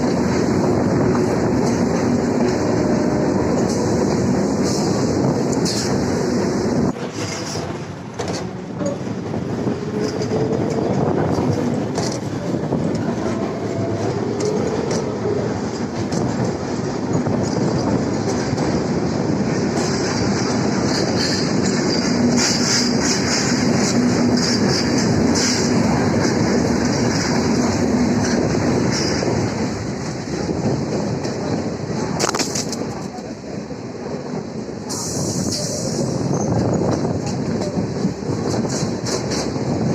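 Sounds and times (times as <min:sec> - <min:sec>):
wheels clattering over rail joints: 0:00.0 - 0:33.3
electric train running on rails: 0:00.0 - 0:39.9
wheels screeching on rails: 0:00.0 - 0:39.9.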